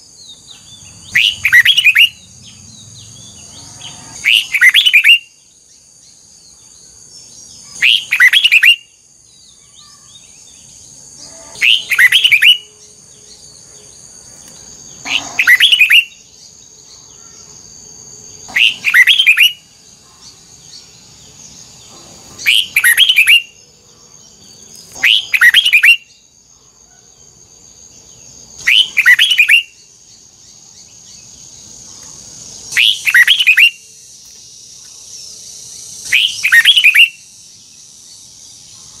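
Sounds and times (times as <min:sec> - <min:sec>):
bird singing: 0:00.0 - 0:39.0.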